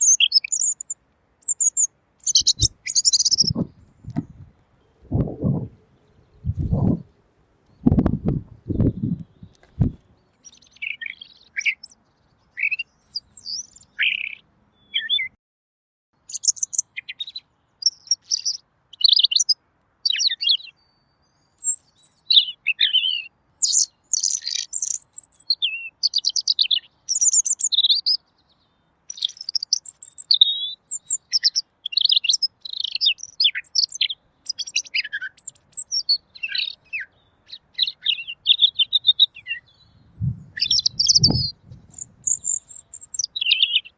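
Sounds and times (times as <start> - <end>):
bird singing whistled trills: 0.0 - 4.4, 10.4 - 12.0, 12.6 - 15.4, 16.3 - 28.2, 29.1 - 43.9.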